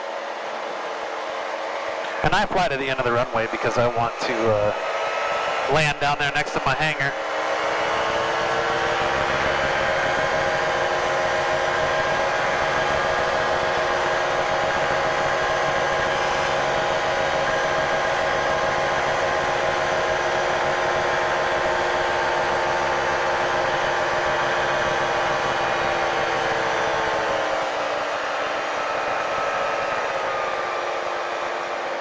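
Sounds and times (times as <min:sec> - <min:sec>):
airplane engine and propeller droning: 0:00.0 - 0:32.0.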